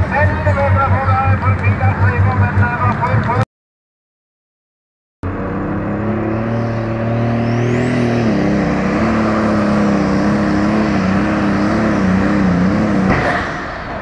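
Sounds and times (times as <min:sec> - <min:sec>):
diesel engine under full load: 0:00.0 - 0:03.4, 0:05.2 - 0:14.0.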